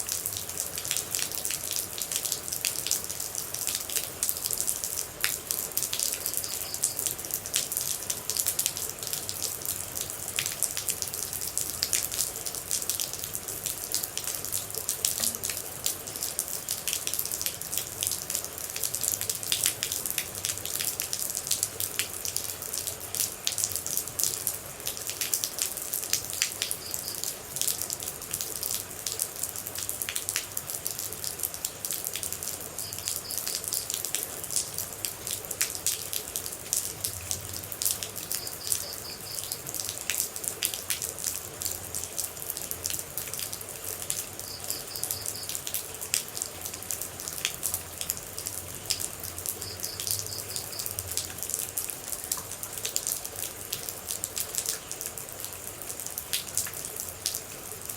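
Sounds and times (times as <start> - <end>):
rain hiss: 0.0 - 57.9
sharp water drips: 0.0 - 57.9.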